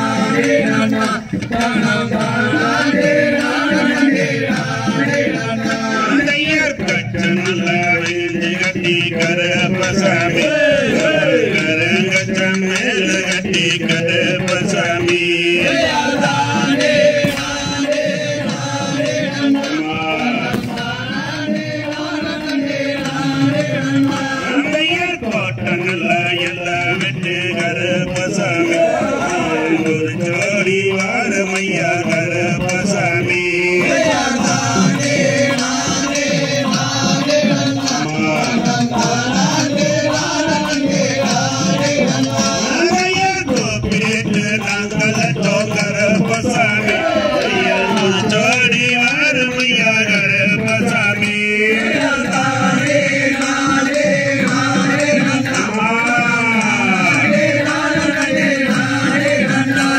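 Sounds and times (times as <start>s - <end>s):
folk song chant-like singing: 0.0s - 59.9s
musical accompaniment: 0.0s - 59.9s.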